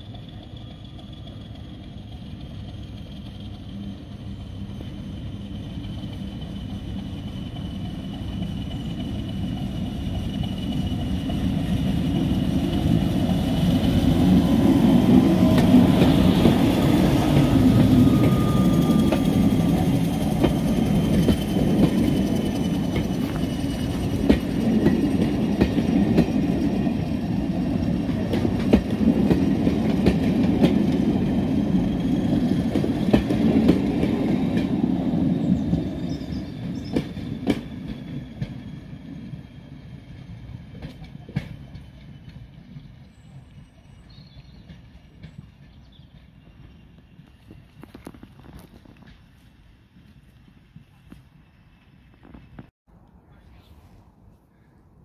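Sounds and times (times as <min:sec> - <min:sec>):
wheels clicking over rail joints: 0:00.0 - 0:52.7
diesel locomotive passing: 0:00.0 - 0:55.0
train coaches rumbling past: 0:00.0 - 0:55.0.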